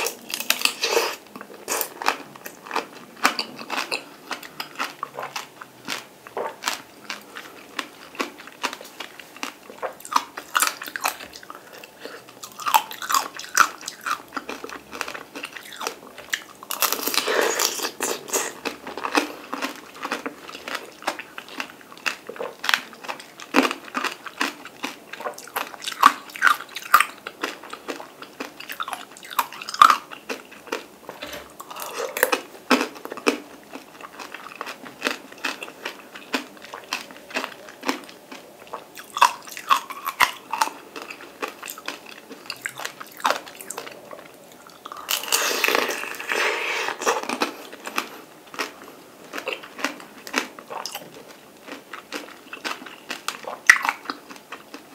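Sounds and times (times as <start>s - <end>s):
wet chewing: 0.0s - 54.9s.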